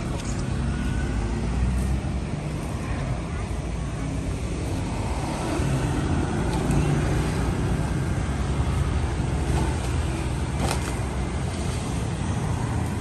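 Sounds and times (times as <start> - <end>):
motorbike engines passing: 0.0 - 13.0.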